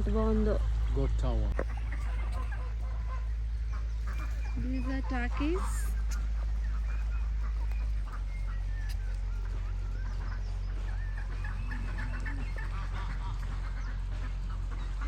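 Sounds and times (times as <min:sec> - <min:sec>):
low rumble: 0:00.0 - 0:15.0
turkeys calling: 0:00.0 - 0:15.0.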